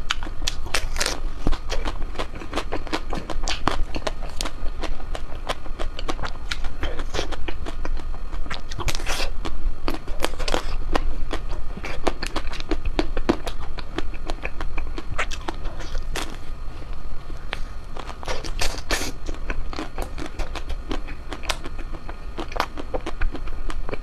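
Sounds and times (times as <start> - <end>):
person chewing ice cream: 0.0 - 24.0.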